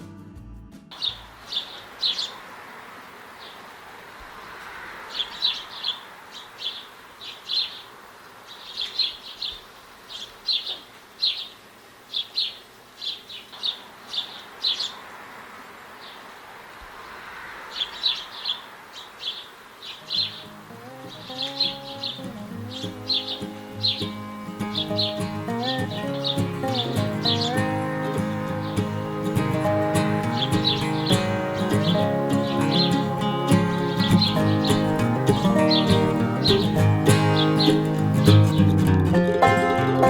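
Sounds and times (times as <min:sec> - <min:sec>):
songbird chip calls: 0:00.9 - 0:02.4, 0:04.3 - 0:15.1, 0:16.9 - 0:38.8
faint steady hiss: 0:00.9 - 0:40.0.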